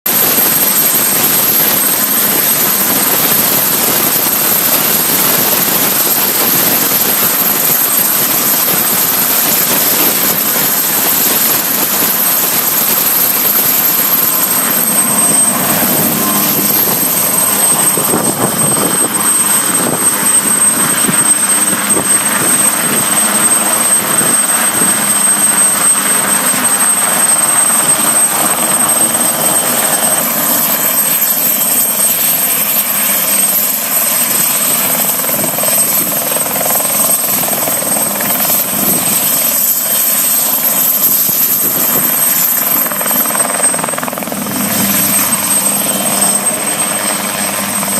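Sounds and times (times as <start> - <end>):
helicopter rotor and engine: 0.0 - 47.9.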